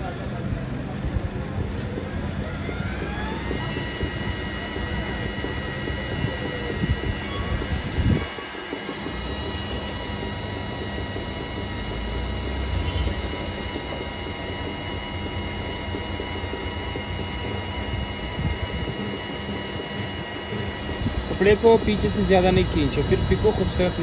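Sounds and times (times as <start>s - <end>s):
sewing machine running: 1.3s - 24.0s.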